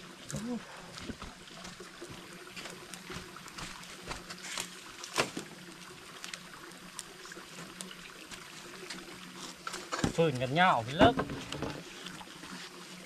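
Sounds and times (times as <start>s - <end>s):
water trickling in stream: 0.0s - 13.0s.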